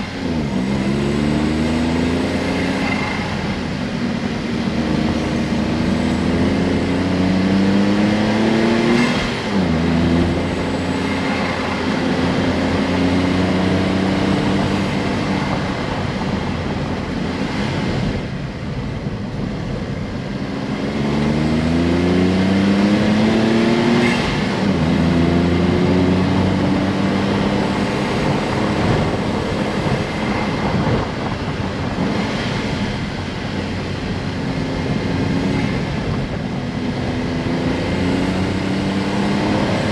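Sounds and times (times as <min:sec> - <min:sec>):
car engine revving: 0:00.0 - 0:18.2, 0:20.2 - 0:39.9.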